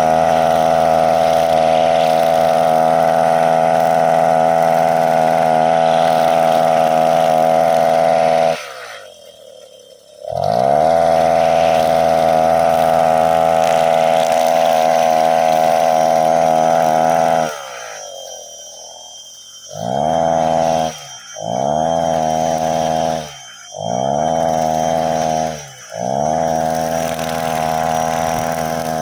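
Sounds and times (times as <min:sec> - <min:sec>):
brush cutter engine revving: 0:00.0 - 0:29.0.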